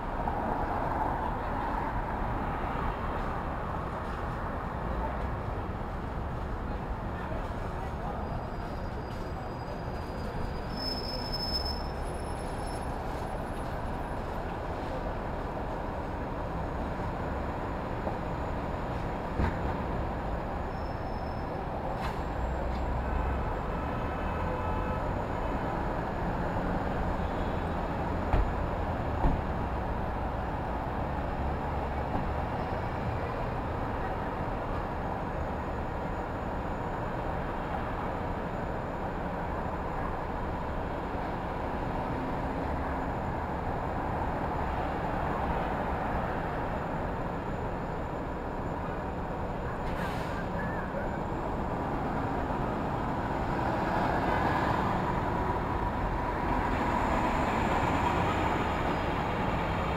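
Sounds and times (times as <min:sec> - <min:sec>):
city street rumble: 0:00.0 - 0:59.9.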